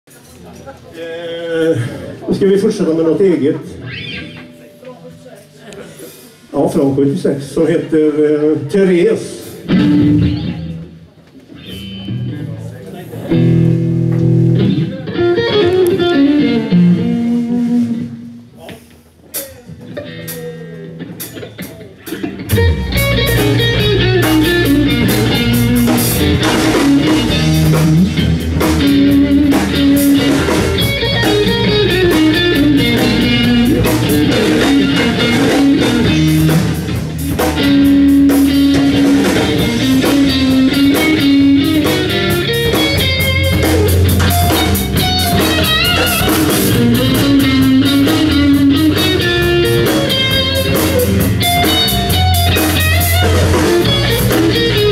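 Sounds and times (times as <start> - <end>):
bass guitar: 2.8 - 54.9
electric guitar: 3.4 - 6.5, 8.5 - 54.9
drum kit: 9.4 - 54.9.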